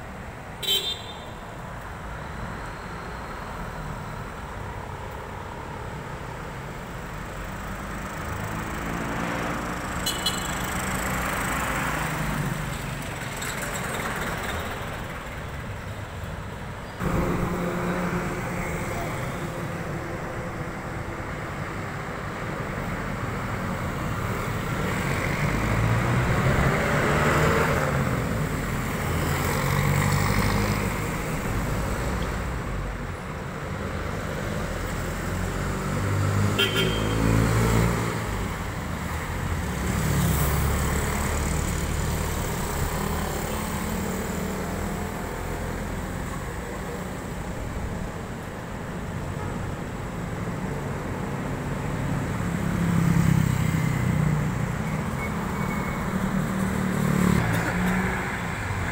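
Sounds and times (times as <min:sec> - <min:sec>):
traffic hum: 0:00.0 - 0:58.9
vehicles passing by: 0:00.0 - 0:58.9.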